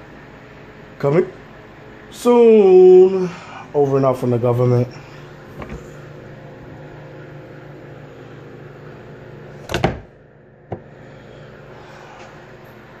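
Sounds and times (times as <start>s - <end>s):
contact grill humming and hissing: 0.0s - 13.0s.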